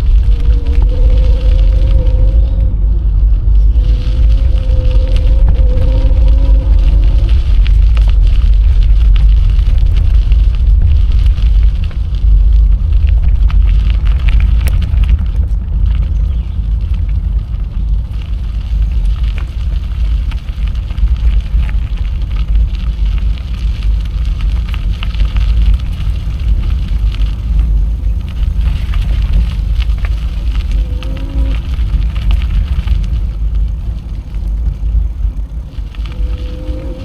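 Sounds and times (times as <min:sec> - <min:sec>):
ticks and crackles of bicycle ride: 0:00.0 - 0:37.0
wind buffeting microphone: 0:00.0 - 0:37.0.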